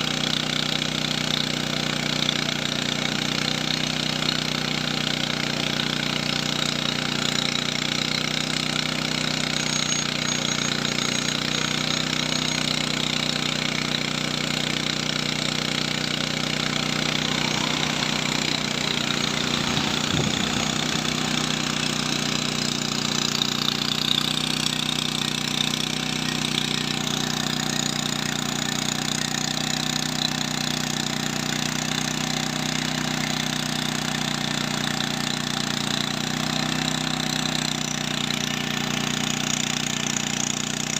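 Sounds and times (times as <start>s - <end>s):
drone rotors buzzing: 0.0s - 40.9s.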